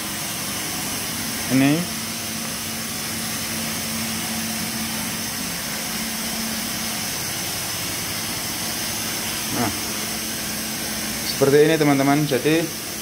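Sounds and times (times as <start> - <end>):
machine hissing: 0.0 - 13.0
machine humming: 0.0 - 13.0.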